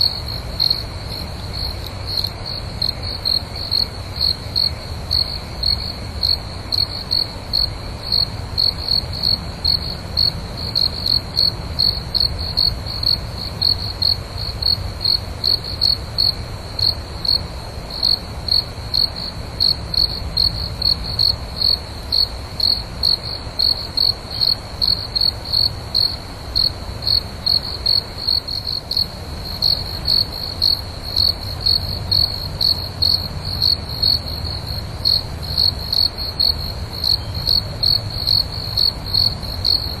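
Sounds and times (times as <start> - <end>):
insect chirping: 0.0 - 40.0.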